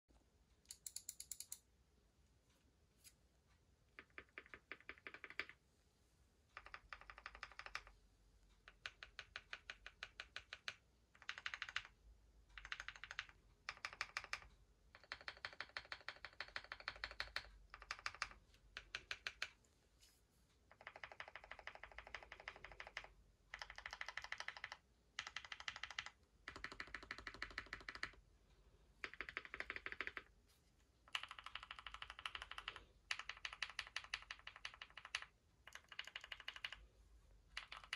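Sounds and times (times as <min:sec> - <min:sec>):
mechanical keyboard typing: 0:00.7 - 0:01.6, 0:03.9 - 0:05.6, 0:06.5 - 0:08.0, 0:08.6 - 0:19.6, 0:20.7 - 0:28.2, 0:29.0 - 0:30.4, 0:31.1 - 0:37.9.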